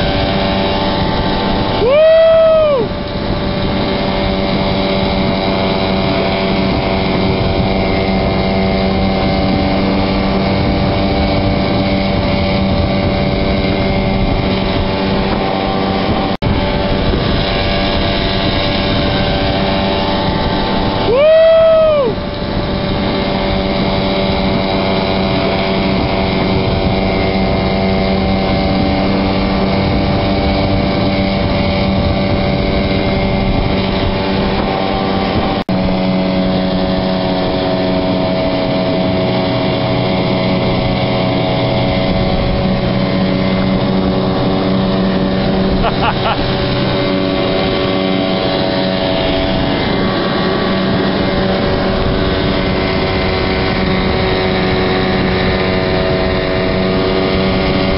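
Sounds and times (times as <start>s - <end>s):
boat engine running: 0.0s - 57.9s
loud rising and falling tone: 0.0s - 57.9s
rushing water: 0.0s - 57.9s
wind: 0.0s - 57.9s.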